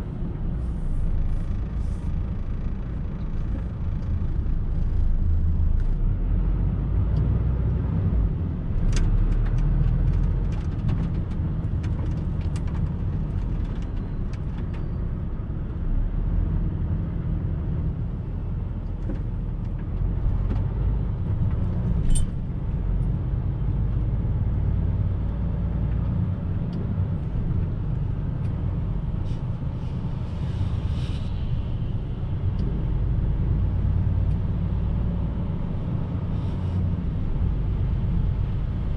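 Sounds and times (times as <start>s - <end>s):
truck engine and road rumble: 0.0s - 38.9s.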